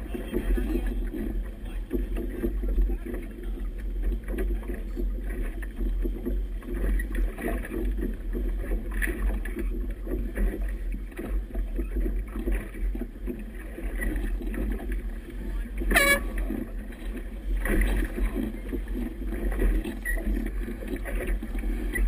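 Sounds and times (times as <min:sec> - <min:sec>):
water splashing against boat hull: 0:00.0 - 0:22.0.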